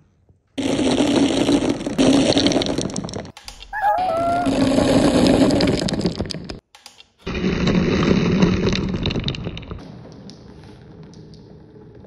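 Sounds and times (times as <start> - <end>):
marbles rolling and clattering: 0.9 - 6.6, 7.3 - 12.0.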